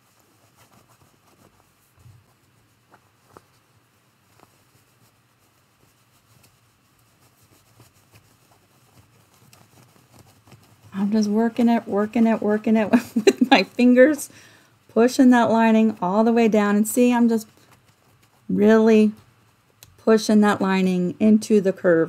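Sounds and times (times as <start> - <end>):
fabric rustling: 0.0 - 21.0.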